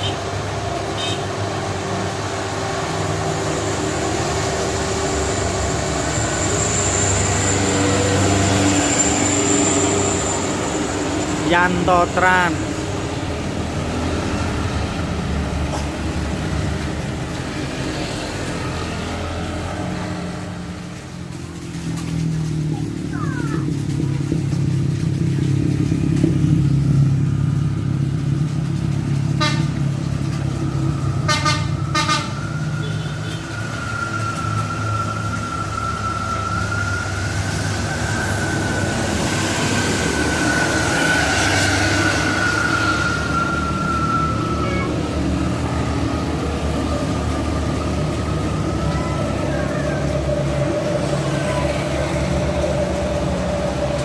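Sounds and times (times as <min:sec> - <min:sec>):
bus diesel engine under load: 0:00.0 - 0:54.0.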